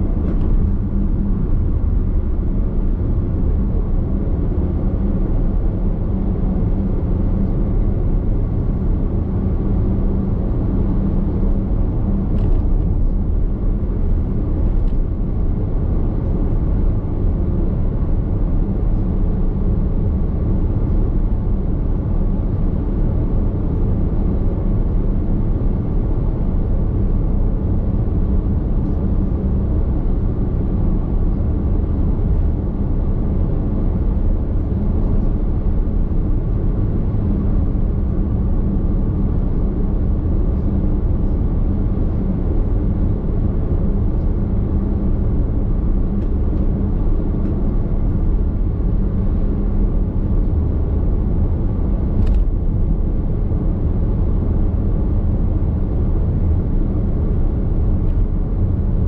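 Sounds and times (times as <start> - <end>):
road and tyre rumble: 0.0 - 59.0.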